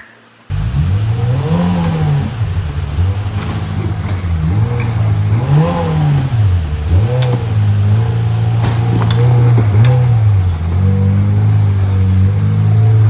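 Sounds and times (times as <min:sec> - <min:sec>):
utv engine revving: 0:00.5 - 0:13.0.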